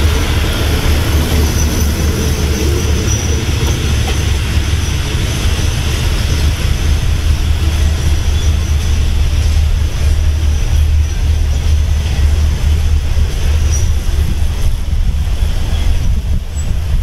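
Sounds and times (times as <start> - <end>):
train rumbling: 0.0 - 17.0
wind buffeting microphone: 0.0 - 17.0.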